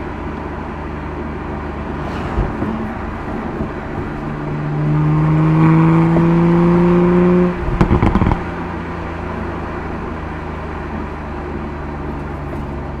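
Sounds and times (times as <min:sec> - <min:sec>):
car engine accelerating: 0:00.0 - 0:13.0
exhaust pops and rattles: 0:01.9 - 0:13.0.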